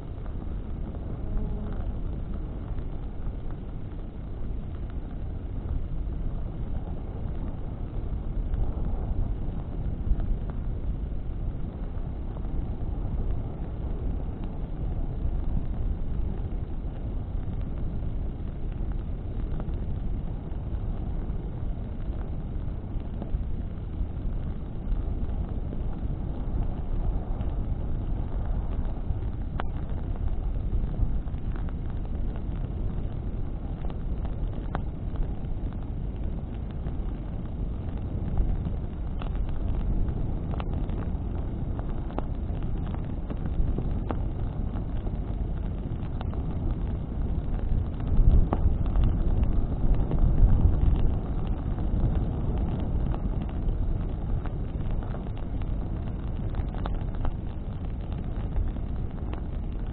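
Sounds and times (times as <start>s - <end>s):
bonfire flames and wind rumbling: 0.0s - 59.9s
burning wood crackling: 0.0s - 59.9s.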